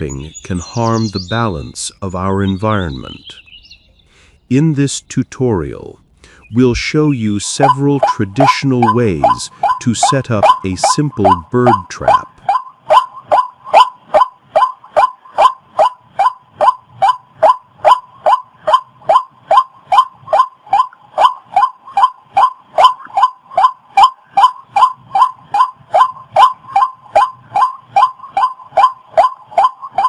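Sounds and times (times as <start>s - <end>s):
waterhen calling: 0.0s - 4.3s, 6.2s - 30.0s.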